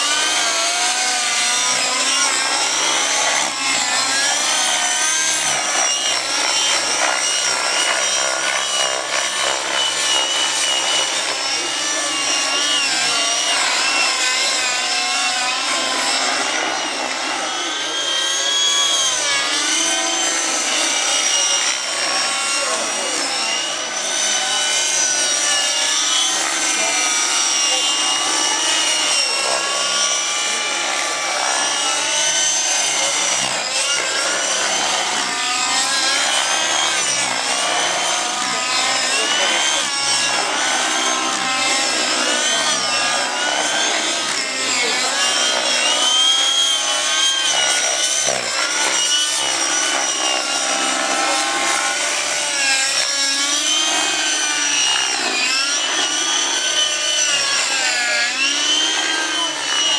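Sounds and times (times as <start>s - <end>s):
model helicopters whining: 0.0s - 59.9s.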